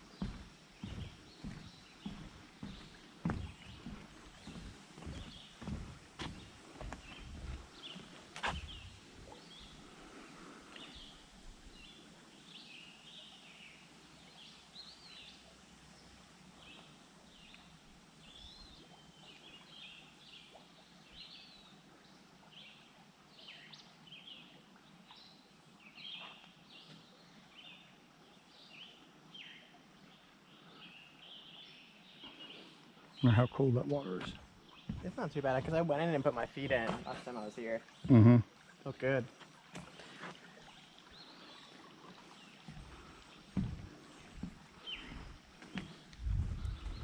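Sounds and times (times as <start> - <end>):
low background hiss: 0.0 - 47.0
songbirds chirping: 0.0 - 47.0.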